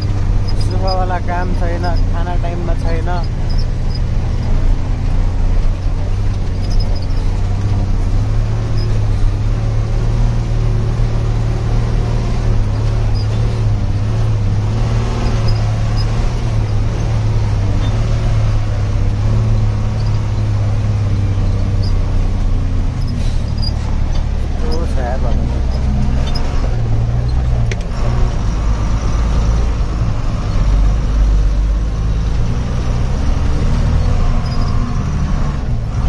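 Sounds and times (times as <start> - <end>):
truck engine droning: 0.0 - 36.0.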